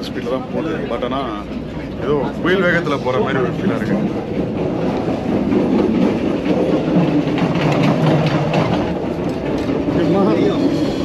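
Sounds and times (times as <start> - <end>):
train rumble inside carriage: 0.0 - 11.0
wheels clacking on rails: 0.0 - 11.0.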